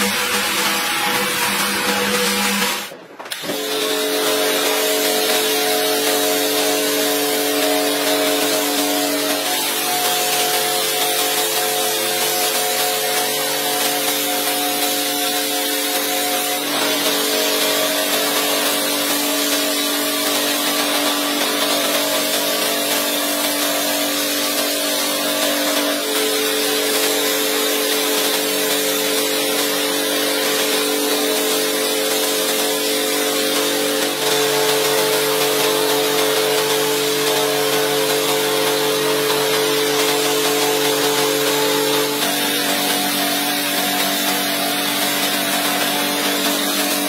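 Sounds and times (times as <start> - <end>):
pressure washer spraying water: 0.0 - 47.0.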